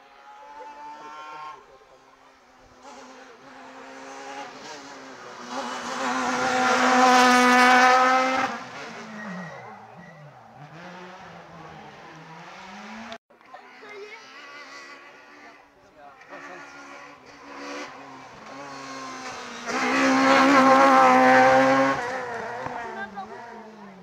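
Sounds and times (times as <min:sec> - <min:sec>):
rally car passing at speed: 0:02.7 - 0:24.0.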